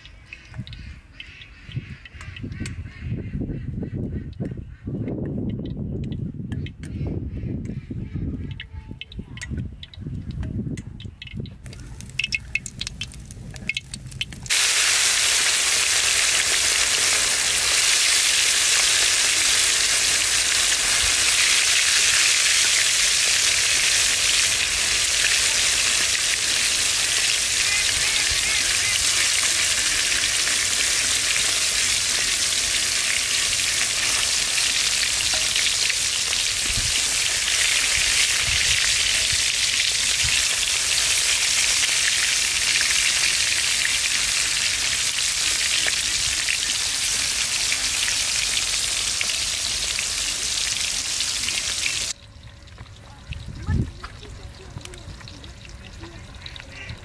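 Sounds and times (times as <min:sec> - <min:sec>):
fish deep-frying in hot oil: 0:00.0 - 0:02.7, 0:09.0 - 0:57.0
wood fire crackling: 0:11.2 - 0:56.8.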